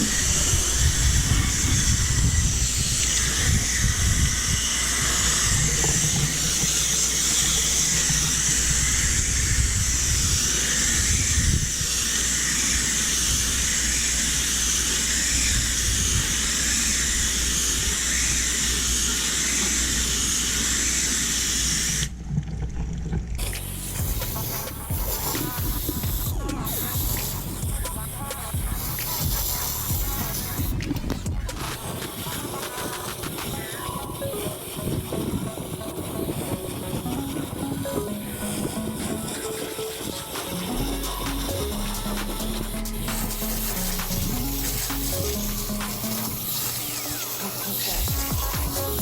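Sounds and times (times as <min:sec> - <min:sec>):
hose water spraying: 0:00.0 - 0:22.2, 0:23.4 - 0:49.0.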